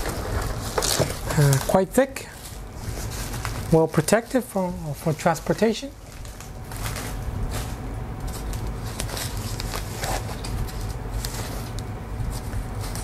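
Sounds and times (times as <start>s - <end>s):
packaging wrap crinkling: 0.0s - 13.0s
steady low hum: 0.0s - 13.0s.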